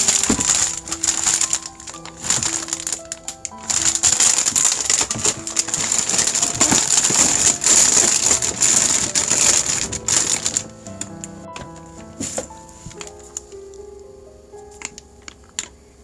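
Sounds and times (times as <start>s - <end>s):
rustling and clicking handling noise: 0.0s - 14.0s, 14.7s - 15.8s
quiet background music: 0.0s - 16.0s.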